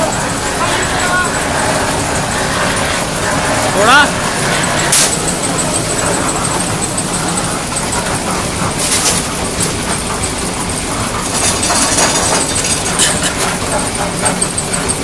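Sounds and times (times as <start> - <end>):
concrete mixer engine running: 0.0 - 15.0.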